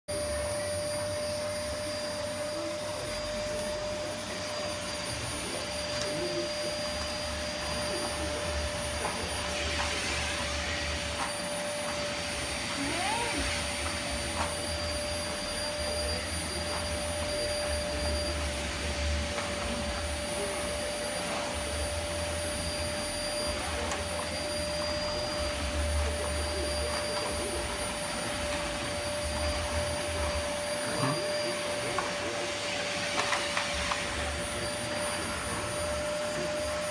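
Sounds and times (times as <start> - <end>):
vacuum cleaner running: 0.1 - 36.9.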